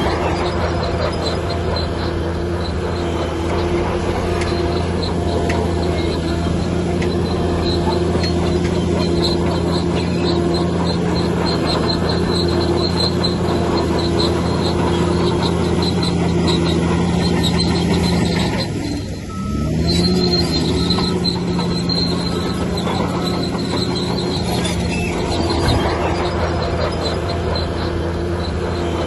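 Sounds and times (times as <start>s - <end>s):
heavy diesel machine running: 0.0s - 29.0s
steel tracks squeaking and clanking: 0.0s - 29.0s.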